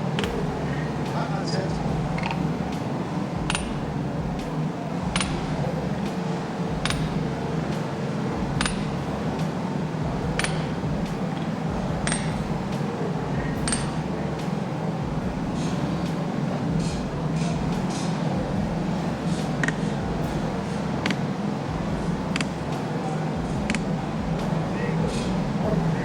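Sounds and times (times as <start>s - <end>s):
hammer striking metal: 0.0s - 26.0s
low hum: 0.0s - 26.0s.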